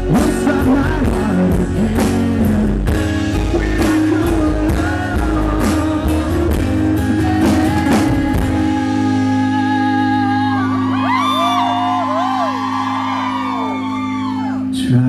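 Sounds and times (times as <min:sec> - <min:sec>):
bending guitar melody: 0:00.0 - 0:15.0
electric guitar: 0:00.0 - 0:15.0.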